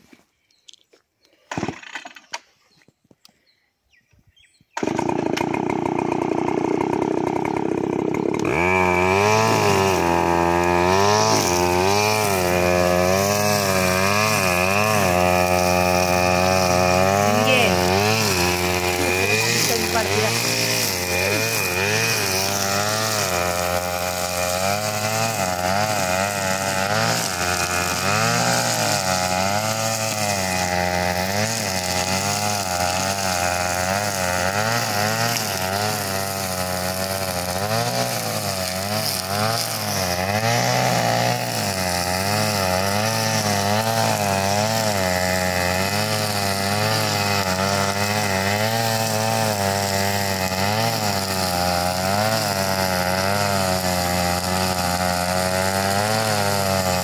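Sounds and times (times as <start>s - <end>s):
brush cutter engine running: 4.7s - 57.0s.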